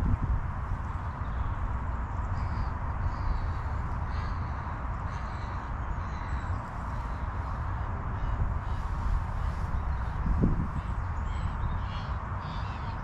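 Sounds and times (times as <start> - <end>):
wind buffeting microphone: 0.0 - 13.0
faint bird calls: 1.2 - 13.0.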